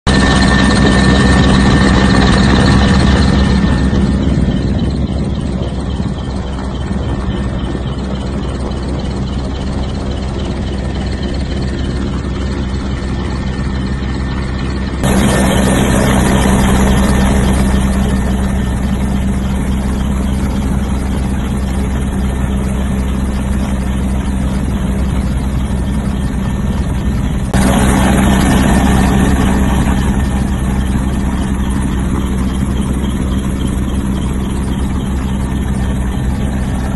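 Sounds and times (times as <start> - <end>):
helicopter engines and rotor: 0.0 - 36.9.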